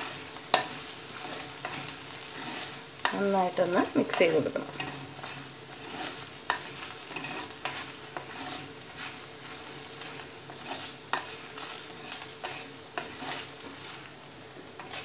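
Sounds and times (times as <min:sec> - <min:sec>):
okra sizzling in oil: 0:00.0 - 0:15.0
wooden spatula scraping pot: 0:00.0 - 0:15.0.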